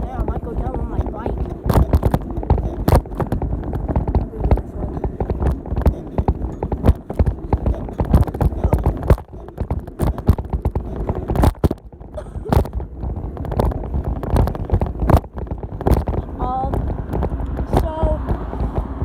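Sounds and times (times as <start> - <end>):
bicycle rattling over bumps: 0.0 - 19.0
low steady rumble: 0.0 - 19.0.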